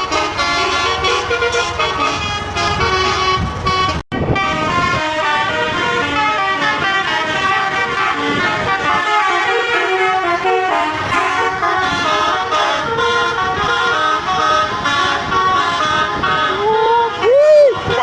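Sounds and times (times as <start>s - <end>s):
multi-tone bus air horns: 0.0s - 18.0s.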